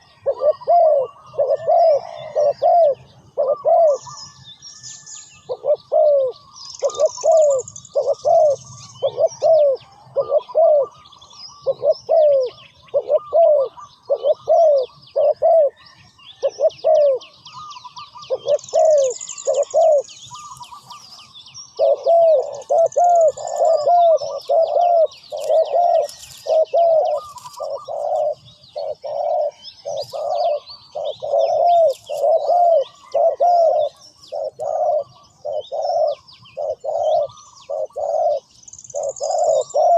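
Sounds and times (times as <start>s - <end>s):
dove cooing: 0.0s - 4.4s, 5.5s - 39.9s
small birds chirping: 0.0s - 39.9s.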